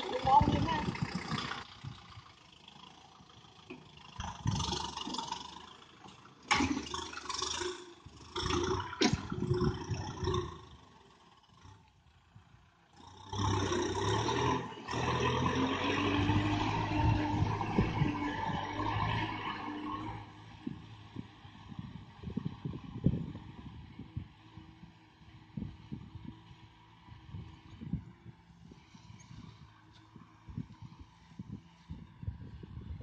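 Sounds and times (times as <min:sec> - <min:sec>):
tractor diesel engine: 0:00.0 - 0:33.0.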